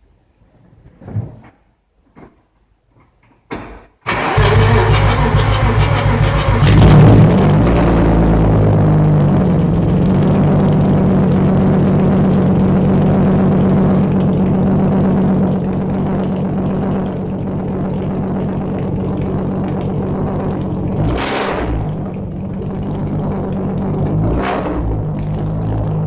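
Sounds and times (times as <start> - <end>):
car engine idling: 4.1 - 26.0.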